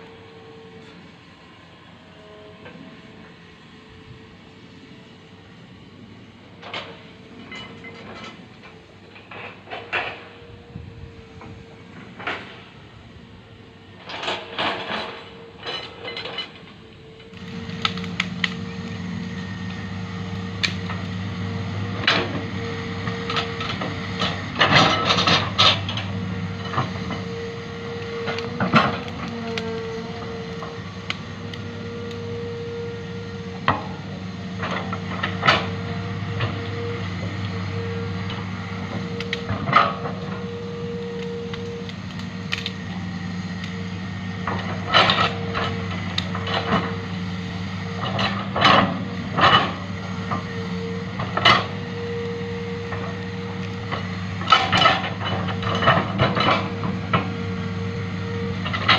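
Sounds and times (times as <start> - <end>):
excavator diesel engine whining: 0.0 - 58.9.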